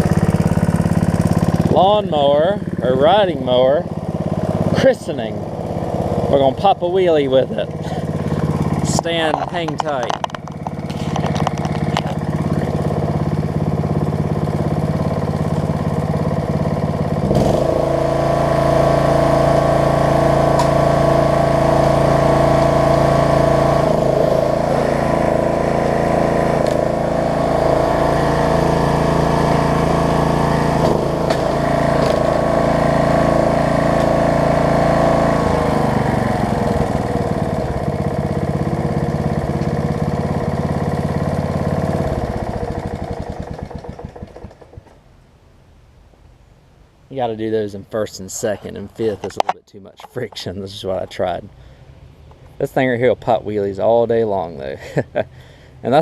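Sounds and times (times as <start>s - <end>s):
riding mower engine running: 0.0s - 45.3s, 47.3s - 56.0s.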